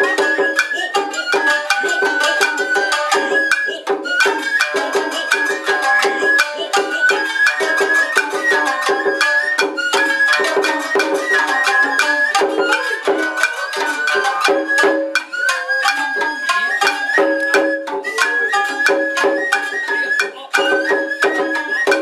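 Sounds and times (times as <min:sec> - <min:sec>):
bamboo flute melody: 0:00.0 - 0:22.0
drum strikes: 0:00.0 - 0:22.0
shamisen plucked notes: 0:00.0 - 0:22.0.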